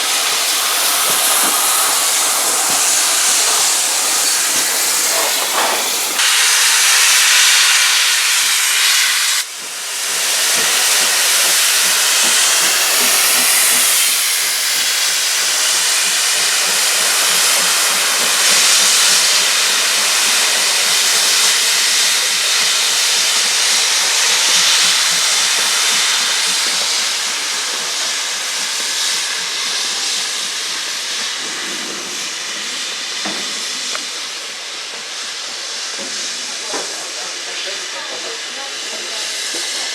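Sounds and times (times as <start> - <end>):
steam locomotive hissing steam: 0.0 - 39.9.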